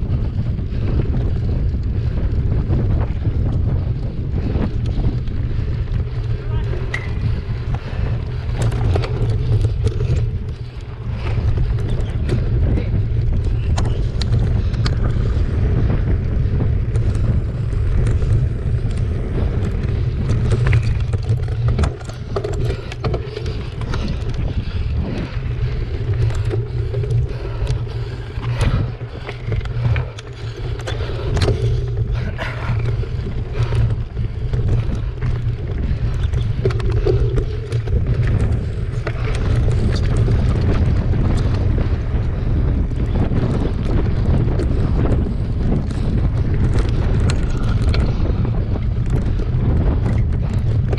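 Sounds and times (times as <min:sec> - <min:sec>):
bike rattling over stones: 0:00.0 - 0:50.9
wind buffeting microphone: 0:00.0 - 0:50.9.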